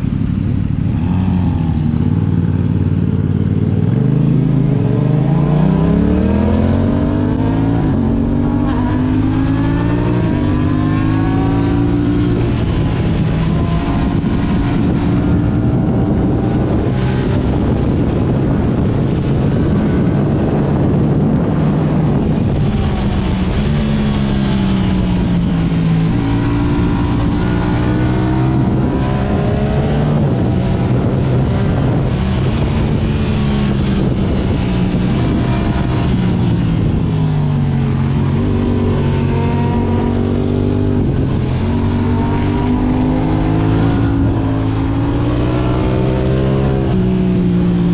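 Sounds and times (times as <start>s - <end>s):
motorcycle engine revving: 0.0s - 47.9s
wind and road noise: 0.0s - 47.9s.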